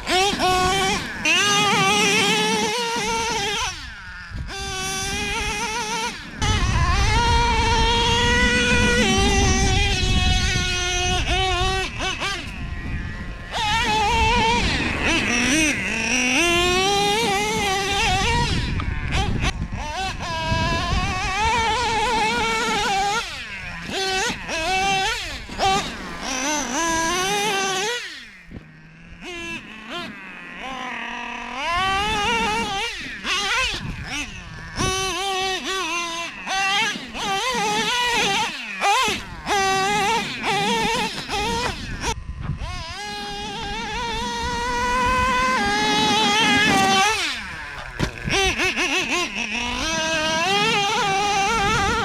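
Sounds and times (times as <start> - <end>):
model engine revving: 0.0 - 52.0.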